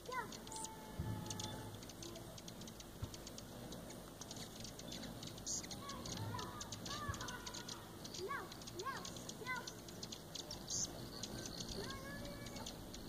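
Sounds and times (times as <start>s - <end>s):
bird chirping: 0.0s - 13.0s
hummingbird chip notes: 0.0s - 13.0s.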